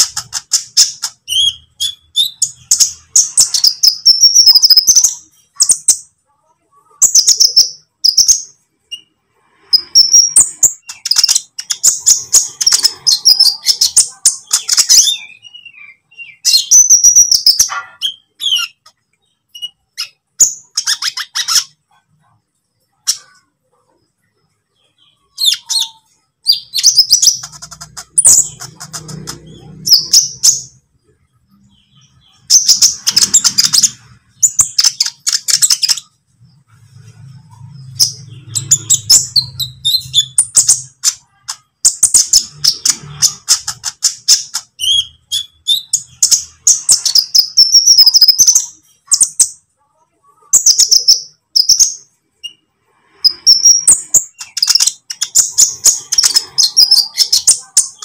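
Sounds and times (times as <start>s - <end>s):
bird twittering and chattering: 0.0s - 49.6s, 50.3s - 58.0s.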